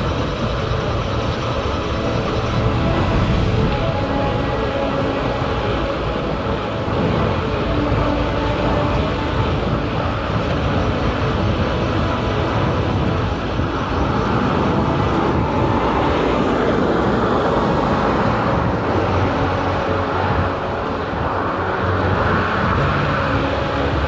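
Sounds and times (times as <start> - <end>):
bicycle tyres rolling on tarmac: 0.0 - 24.0
wind on microphone: 0.0 - 24.0.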